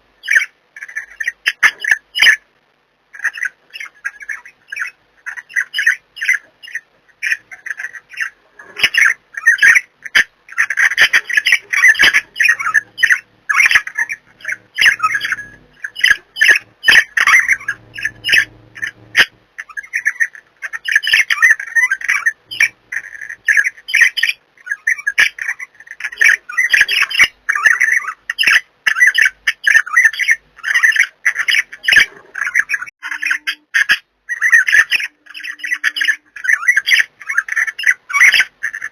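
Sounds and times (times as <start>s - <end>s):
budgerigars chirping and squawking: 0.2s - 2.4s, 3.1s - 38.9s.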